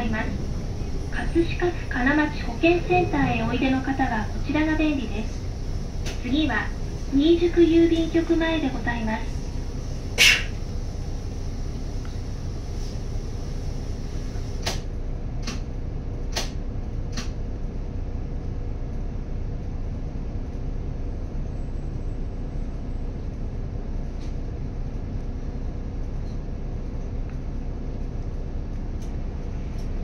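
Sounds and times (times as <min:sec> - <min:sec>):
bus engine idling: 0:00.0 - 0:30.0.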